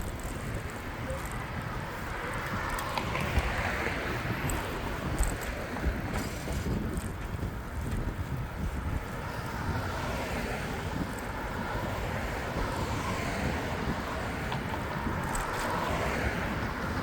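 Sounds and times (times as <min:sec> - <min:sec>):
city traffic noise: 0:00.0 - 0:17.0
wind rumble on microphone: 0:00.0 - 0:17.0.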